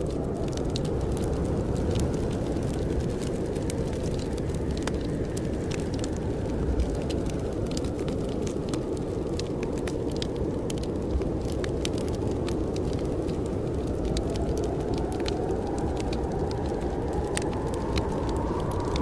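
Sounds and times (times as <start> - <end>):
blizzard wind rushing: 0.0 - 19.0
wood fire crackling and popping: 0.0 - 19.0.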